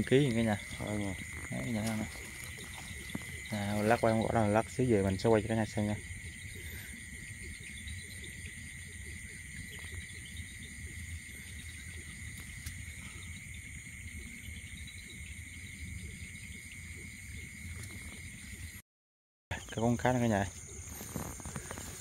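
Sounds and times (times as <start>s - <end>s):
crickets chirping: 0.0s - 18.8s, 19.5s - 22.0s.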